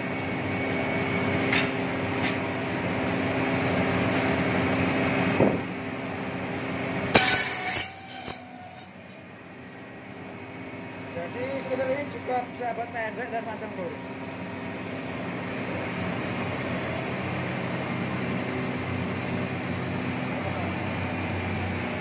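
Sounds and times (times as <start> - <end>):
slicing machine humming: 0.0 - 22.0.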